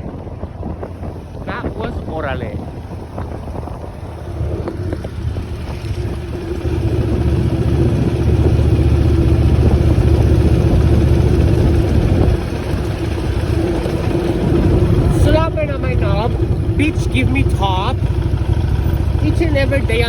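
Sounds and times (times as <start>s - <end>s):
wind rush: 0.0s - 19.2s
motorcycle engine rumble: 0.0s - 20.0s.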